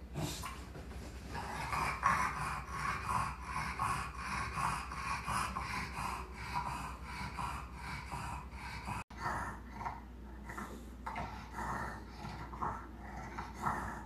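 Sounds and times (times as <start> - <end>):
dog snorting breaths: 0.0 - 14.0.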